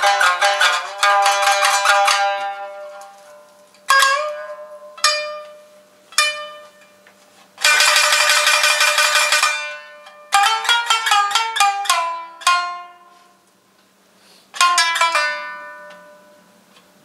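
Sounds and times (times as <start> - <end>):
shamisen ensemble playing: 0.0 - 13.4, 14.3 - 16.7.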